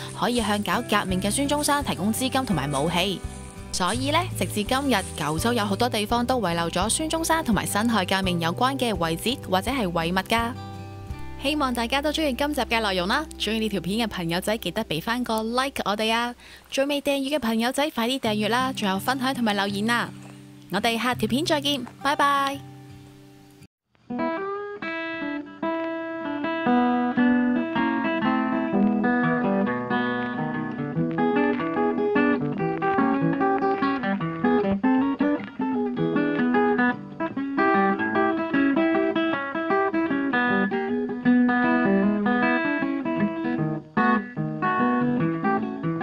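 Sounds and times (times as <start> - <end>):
acoustic guitar melody: 0.0 - 16.4, 18.2 - 46.0.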